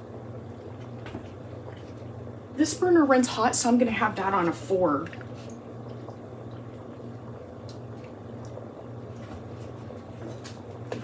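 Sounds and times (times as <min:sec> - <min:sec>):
water boiling and bubbling: 0:00.0 - 0:11.0.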